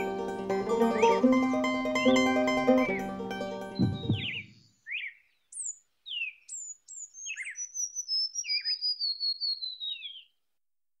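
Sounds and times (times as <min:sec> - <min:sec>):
small bird singing: 0:00.7 - 0:03.1, 0:03.7 - 0:10.4.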